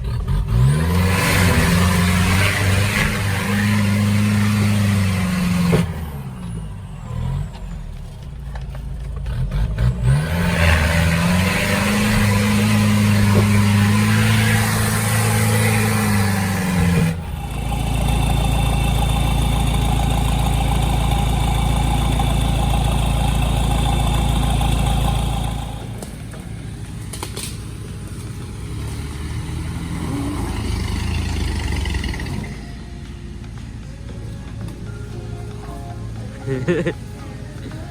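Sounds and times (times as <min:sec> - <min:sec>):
vehicle engine working hard: 0:00.0 - 0:37.9.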